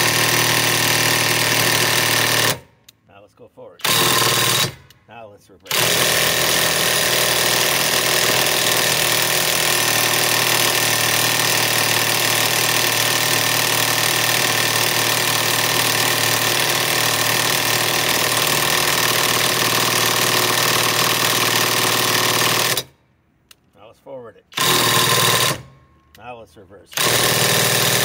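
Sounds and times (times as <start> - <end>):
impact wrench rattling: 0.0 - 2.7, 3.8 - 5.0, 5.7 - 22.9, 24.5 - 26.2, 27.0 - 28.0.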